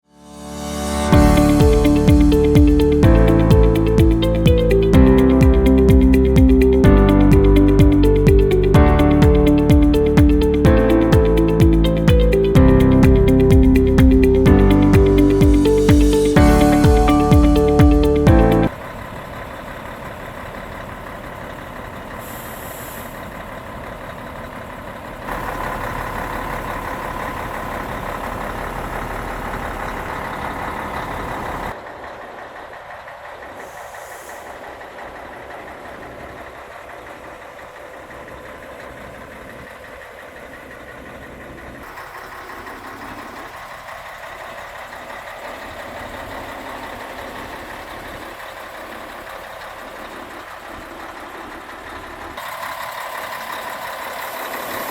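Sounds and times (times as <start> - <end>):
diesel truck engine running: 1.1 - 54.9.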